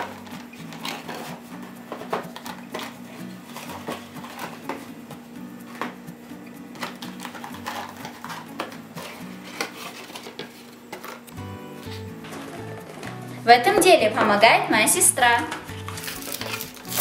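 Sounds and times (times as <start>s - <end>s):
background music low notes: 0.0s - 17.0s.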